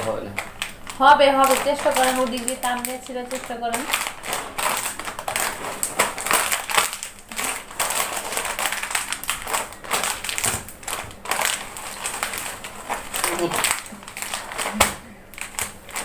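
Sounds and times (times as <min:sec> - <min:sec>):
foil packet crinkling: 0:00.0 - 0:16.0.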